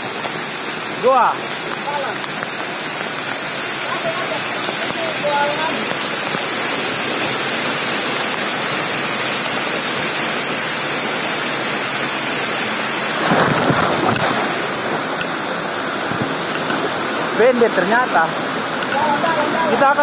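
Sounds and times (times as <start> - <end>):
water splashing: 0.0 - 20.0
waterfall rushing: 0.0 - 20.0.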